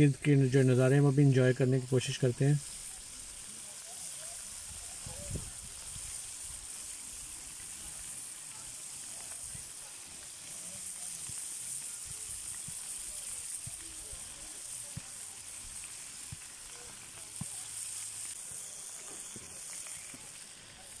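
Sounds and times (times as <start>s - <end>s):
kebabs sizzling in a frying pan: 0.0s - 21.0s.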